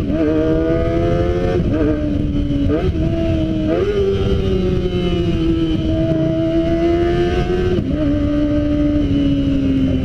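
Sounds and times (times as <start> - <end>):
motorcycle engine at high revs: 0.0 - 10.0
wind and road noise rumble: 0.0 - 10.0.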